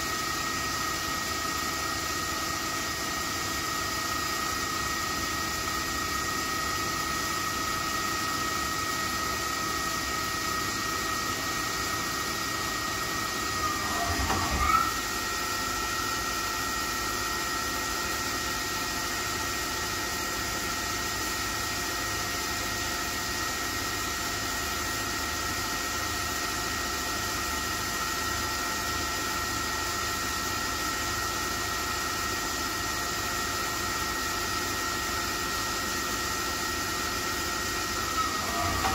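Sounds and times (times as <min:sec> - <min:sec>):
lathe machine whine: 0:00.0 - 0:38.9.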